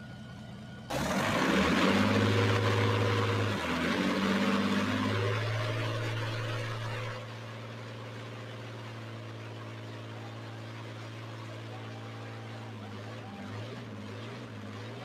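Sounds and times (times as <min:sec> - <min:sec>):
car engine deep drone: 0:00.0 - 0:15.0.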